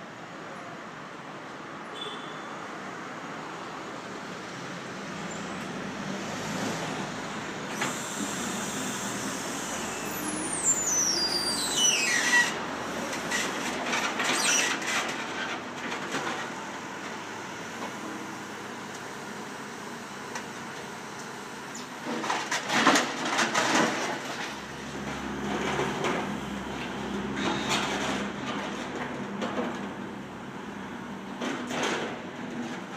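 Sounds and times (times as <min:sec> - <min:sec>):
traffic and machinery hum: 0:00.0 - 0:32.9.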